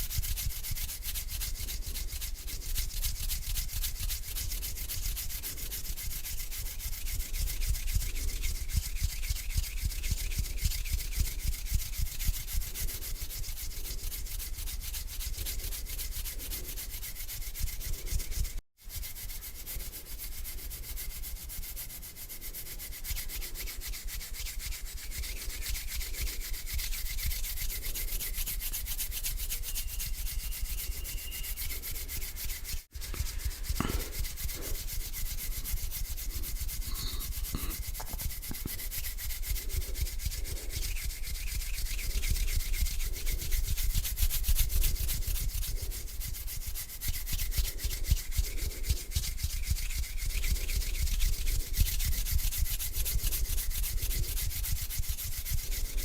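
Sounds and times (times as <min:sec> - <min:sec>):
hands rubbing together: 0:00.0 - 0:56.0.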